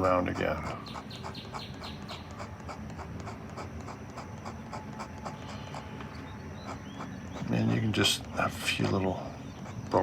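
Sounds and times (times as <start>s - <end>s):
pen scratching on paper: 0.0s - 10.0s.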